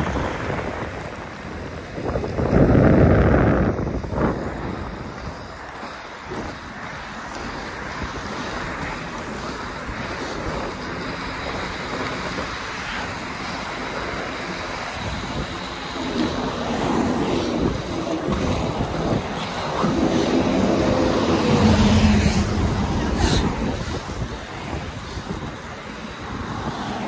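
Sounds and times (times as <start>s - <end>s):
skate wheels rolling on asphalt: 0.0s - 27.0s
wind on microphone: 0.0s - 27.0s.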